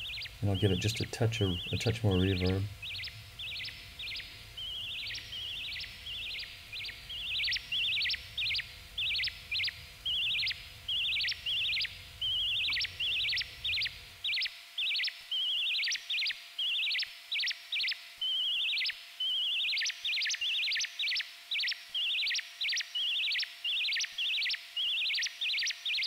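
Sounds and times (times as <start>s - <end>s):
synthesized bird-like chirps: 0.0s - 26.0s.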